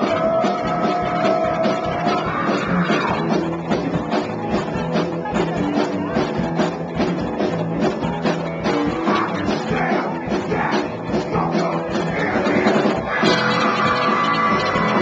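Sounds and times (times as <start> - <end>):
drums steady beat: 0.0 - 15.0
electric guitar: 0.0 - 15.0.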